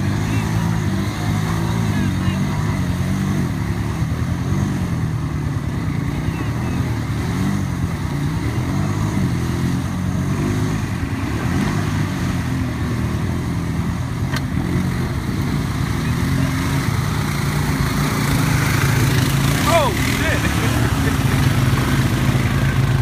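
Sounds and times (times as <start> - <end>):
atv engines revving in mud: 0.0 - 23.0.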